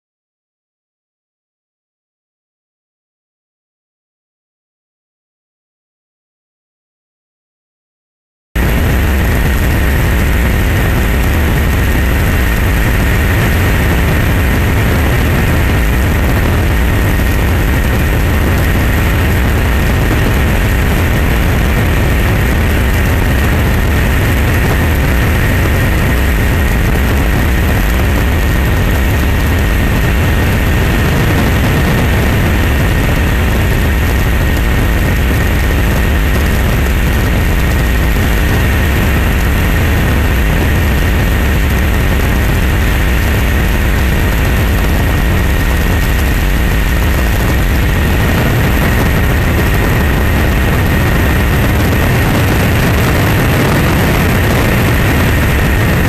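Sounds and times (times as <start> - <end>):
aircraft engine drone in cabin: 8.6 - 56.0
thin steady whine: 8.6 - 56.0.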